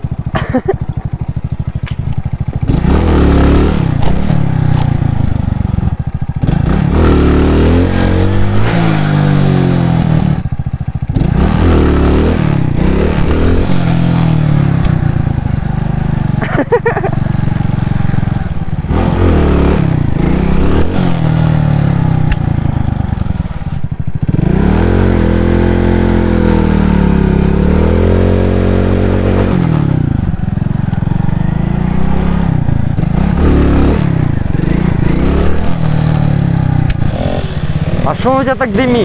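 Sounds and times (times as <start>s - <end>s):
moped engine running: 0.0s - 39.0s.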